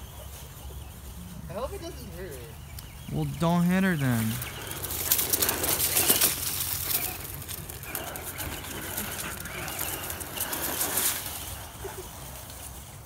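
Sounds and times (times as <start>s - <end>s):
scraping on concrete and leaves: 0.0s - 13.0s.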